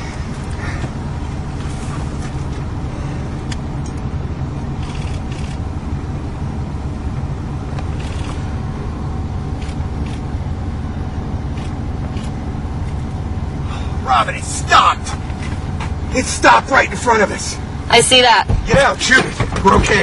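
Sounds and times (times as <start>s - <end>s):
car running rumble from inside: 0.0s - 20.0s.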